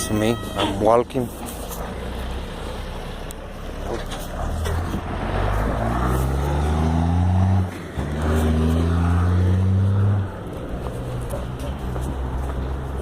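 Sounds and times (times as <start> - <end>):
vehicle engine accelerating: 1.7 - 13.0.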